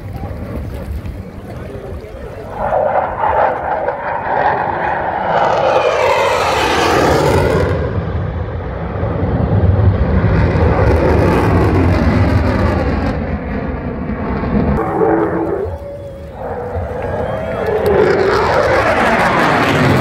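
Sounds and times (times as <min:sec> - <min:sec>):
jet engine roar passing overhead: 0:00.0 - 0:20.0.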